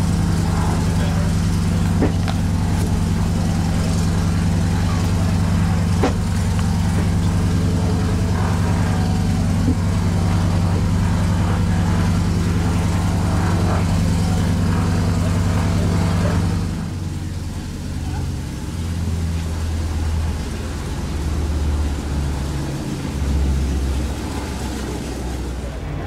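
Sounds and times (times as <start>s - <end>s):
machine engine idling: 0.0s - 26.0s.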